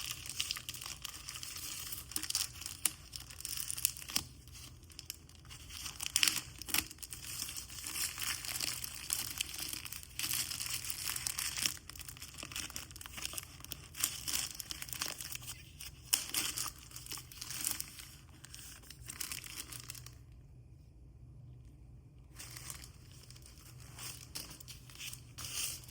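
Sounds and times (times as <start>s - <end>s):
packaging crinkling and tearing: 0.0s - 20.3s, 22.3s - 25.9s.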